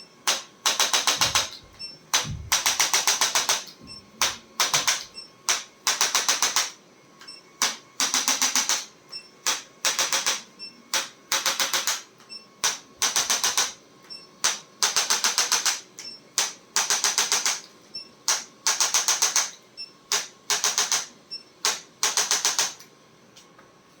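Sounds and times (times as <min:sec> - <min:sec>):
sharp mechanical clicking: 0:00.3 - 0:06.8, 0:07.6 - 0:10.4, 0:11.0 - 0:13.8, 0:14.4 - 0:17.7, 0:18.3 - 0:19.5, 0:20.1 - 0:22.8.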